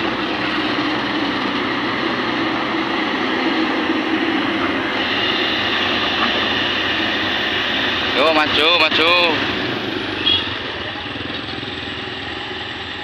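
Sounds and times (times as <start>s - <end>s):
excavator engine and hydraulics: 0.0s - 13.0s
high steady whine: 0.0s - 13.0s.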